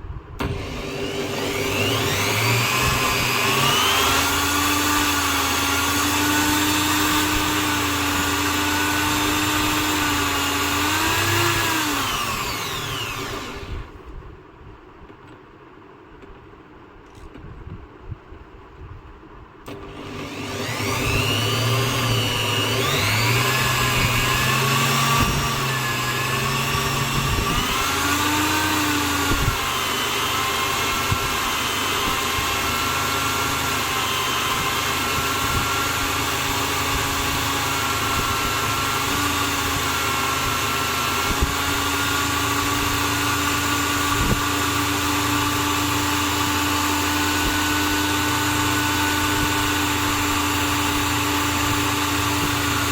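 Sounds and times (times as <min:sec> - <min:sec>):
electric drill whining: 0:00.4 - 0:14.0, 0:19.7 - 0:52.9.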